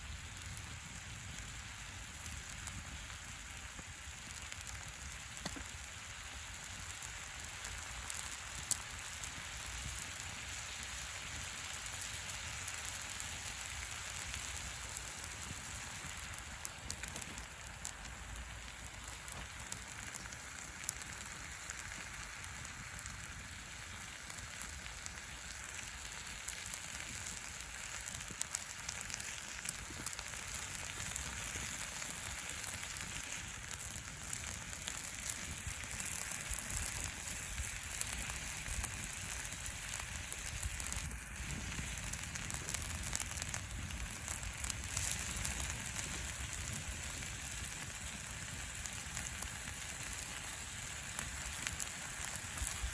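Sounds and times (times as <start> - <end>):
campfire crackling: 0.0 - 52.9.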